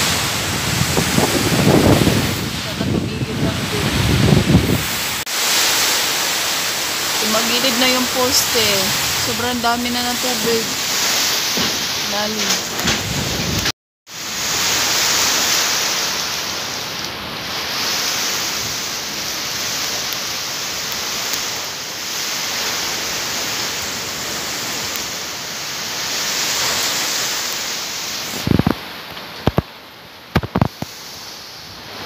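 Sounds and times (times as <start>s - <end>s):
heavy rain: 0.0s - 32.0s
wind gusts: 0.0s - 32.0s.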